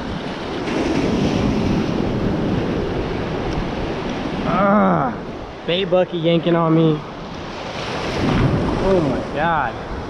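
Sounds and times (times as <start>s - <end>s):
ocean surf washing: 0.0s - 10.0s
wind rumbling on microphone: 0.0s - 10.0s.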